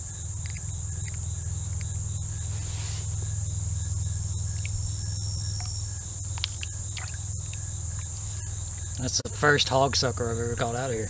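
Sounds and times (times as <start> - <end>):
insects buzzing: 0.0 - 11.0
low rumble: 0.0 - 11.0.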